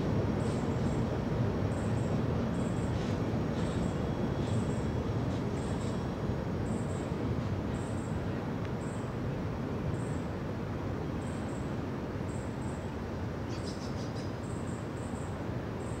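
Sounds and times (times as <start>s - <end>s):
freight train rumble: 0.0s - 16.0s.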